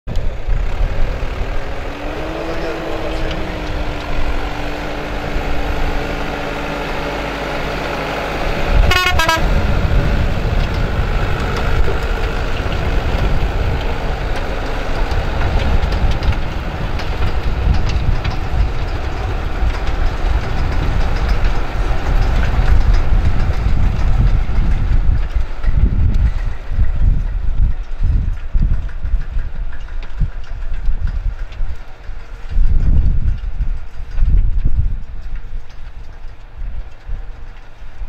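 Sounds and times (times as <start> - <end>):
diesel tractor running under load: 0.1 - 38.0.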